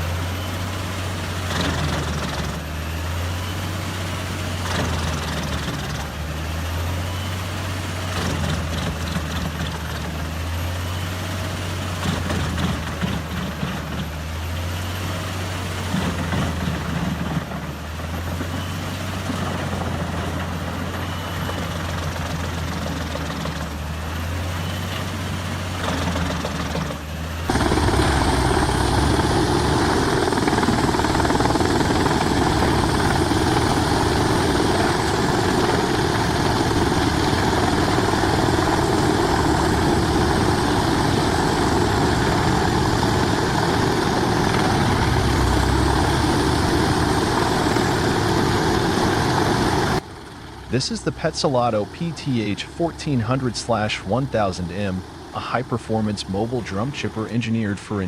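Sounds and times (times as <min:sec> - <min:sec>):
wood chipper running: 0:00.0 - 0:51.9.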